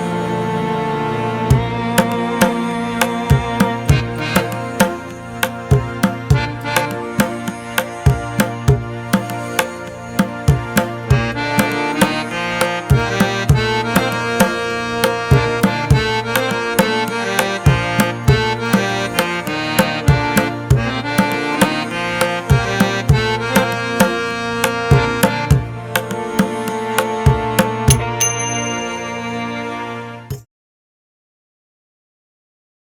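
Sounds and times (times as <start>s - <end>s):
sustained melodic tones: 0.0s - 30.2s
steady drum beat: 1.5s - 28.2s.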